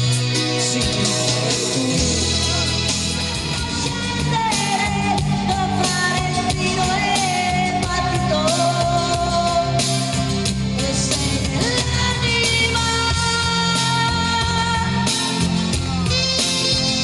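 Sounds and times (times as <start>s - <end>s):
instrumental pop accompaniment: 0.0s - 17.0s
person singing into a microphone: 0.1s - 17.0s.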